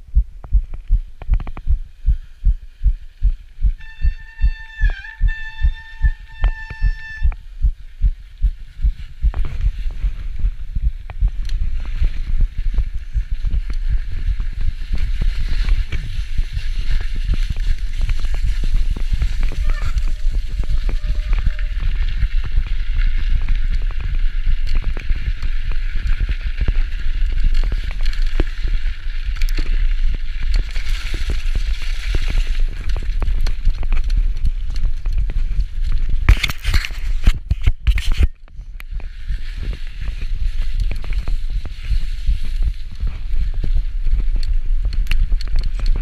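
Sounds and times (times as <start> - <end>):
bike rattling and knocking: 0.0 - 46.0
wind rumble on microphone: 0.0 - 46.0.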